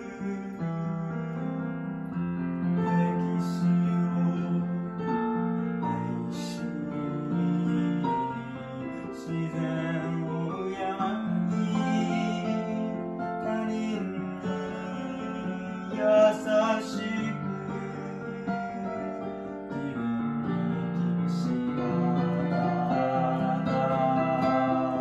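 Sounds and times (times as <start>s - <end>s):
digital piano chords: 0.0s - 25.0s
young man singing: 0.0s - 25.0s.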